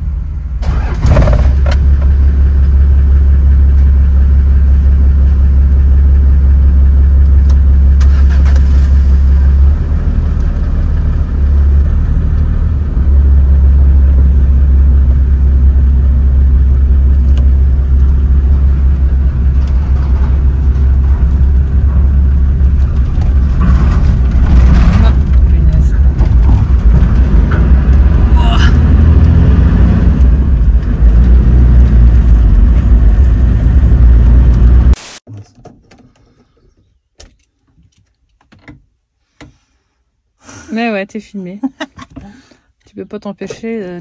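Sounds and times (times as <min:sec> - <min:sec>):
heavy vehicle engine rumble: 0:00.0 - 0:35.4.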